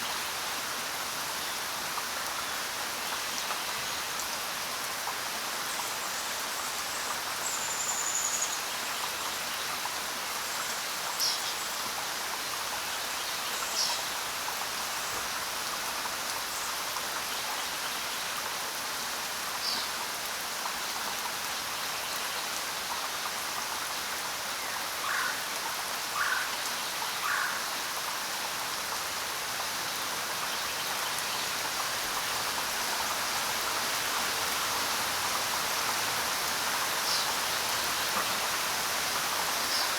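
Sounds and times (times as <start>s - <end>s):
rain falling on ground: 0.0s - 39.9s.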